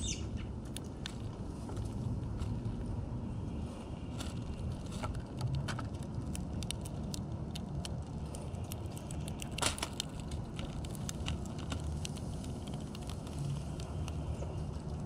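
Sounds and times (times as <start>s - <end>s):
steady low rumble: 0.0s - 15.0s
birds pecking seed clicking: 0.6s - 1.9s, 4.1s - 15.0s.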